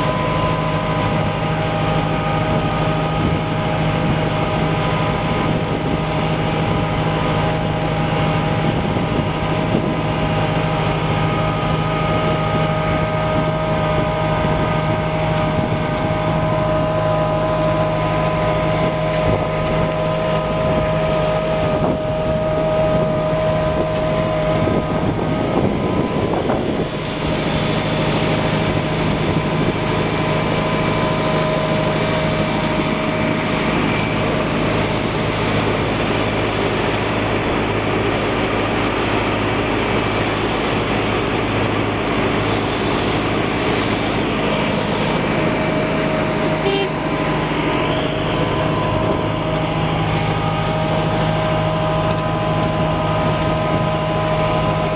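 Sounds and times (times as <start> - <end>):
constant whine: 0.0 - 54.9
tractor diesel engine running: 0.0 - 54.9.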